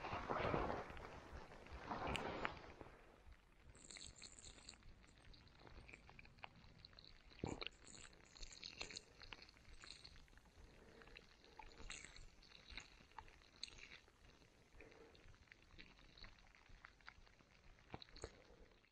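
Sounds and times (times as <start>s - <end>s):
faint ticks and crackles: 0.0s - 18.9s.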